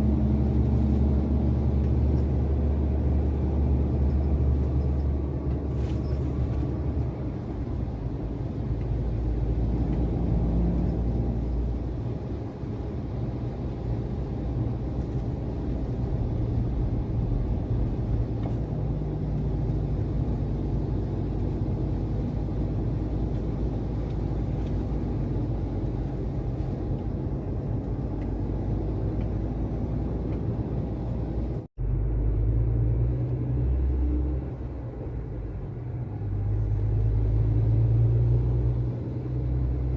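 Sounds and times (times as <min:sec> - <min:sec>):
heavy truck engine rumbling: 0:00.0 - 0:39.9.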